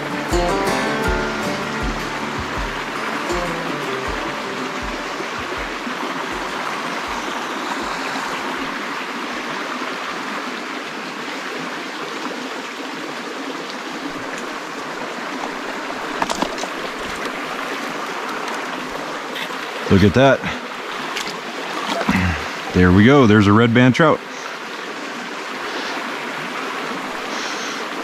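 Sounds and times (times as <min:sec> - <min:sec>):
shallow water running over rocks: 0:01.6 - 0:23.2, 0:24.2 - 0:28.0.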